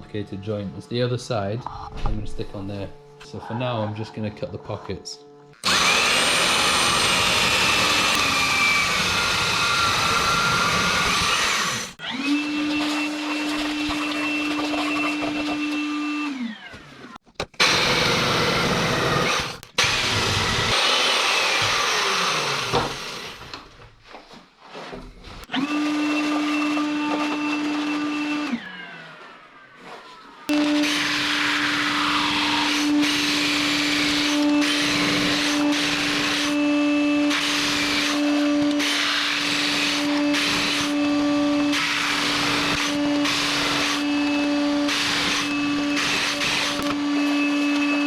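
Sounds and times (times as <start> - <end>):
power tool cutting wood: 5.6 - 23.6, 25.4 - 48.0.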